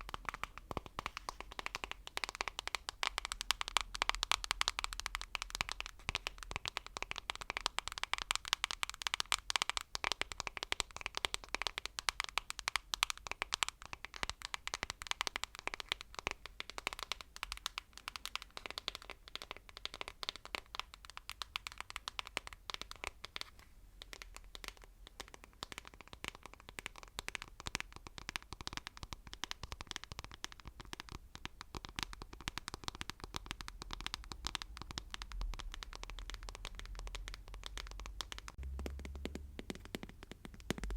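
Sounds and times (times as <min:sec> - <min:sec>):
rapid asmr tapping: 0:00.0 - 0:40.9.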